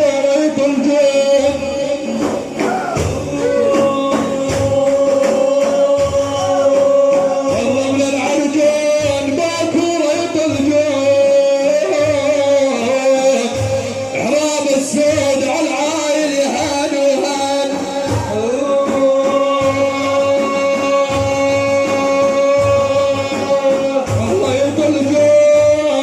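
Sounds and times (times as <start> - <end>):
frame drums beating: 0.0 - 26.0
men chanting devotional song: 0.0 - 26.0.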